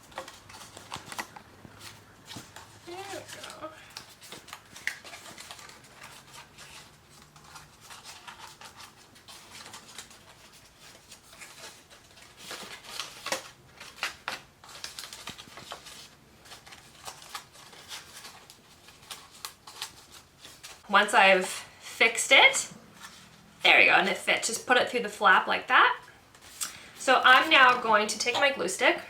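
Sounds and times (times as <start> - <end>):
paper rustling and crinkling: 0.0 - 20.9, 22.9 - 24.2, 26.0 - 29.0.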